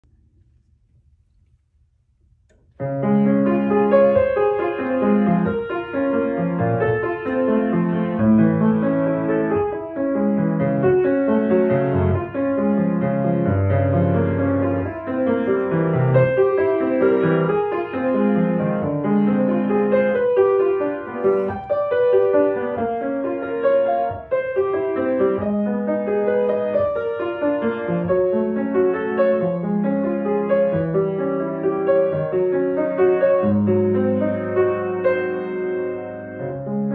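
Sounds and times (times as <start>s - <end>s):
grand piano solo: 2.5s - 36.9s.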